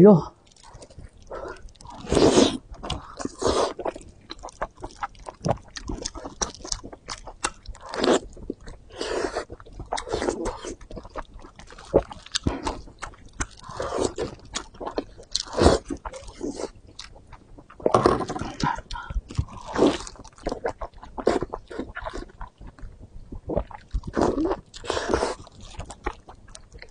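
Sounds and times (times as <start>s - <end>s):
biting and chewing pork: 0.5s - 26.9s.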